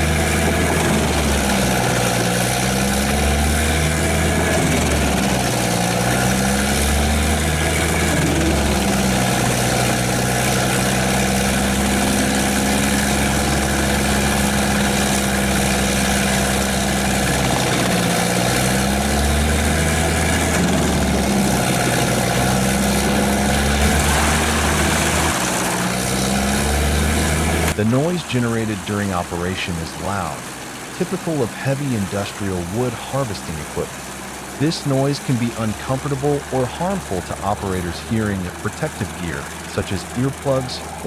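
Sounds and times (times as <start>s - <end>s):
diesel engine drone: 0.0s - 41.0s
wood chipper chipping wood: 0.0s - 41.0s.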